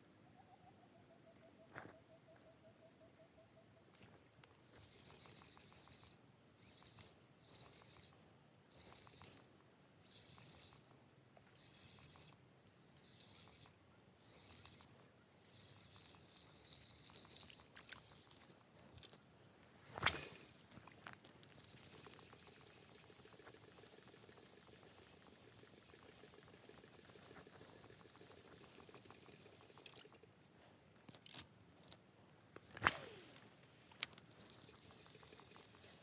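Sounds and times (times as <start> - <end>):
faint steady hiss: 0.0 - 36.0
insect calling in high pulses: 0.1 - 32.0, 32.6 - 36.0.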